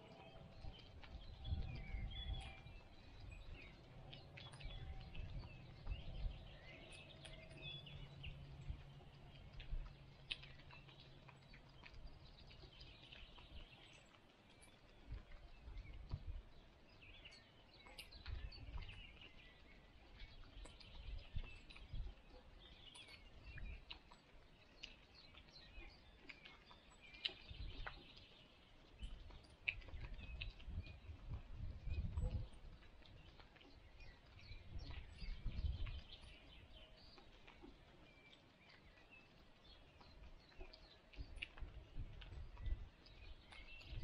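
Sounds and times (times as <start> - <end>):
faint birds chirping: 0.0 - 44.0.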